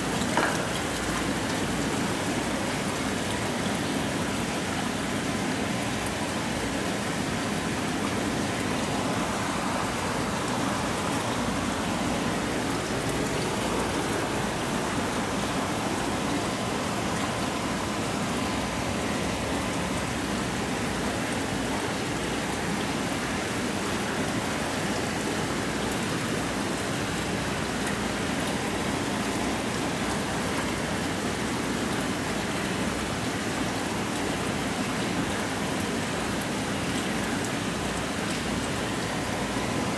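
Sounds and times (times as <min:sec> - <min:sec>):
aquarium water splashing: 0:00.0 - 0:39.9.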